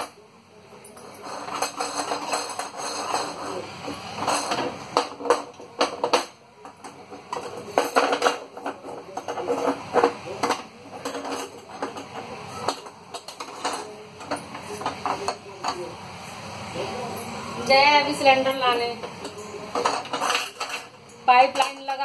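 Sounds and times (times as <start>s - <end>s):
metal pots and dishes clattering: 0.9s - 15.8s, 19.0s - 22.0s.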